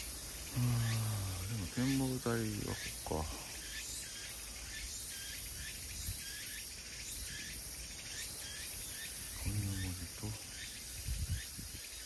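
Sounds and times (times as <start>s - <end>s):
high hiss of insects: 0.0s - 12.0s
insects chirping: 0.0s - 12.0s.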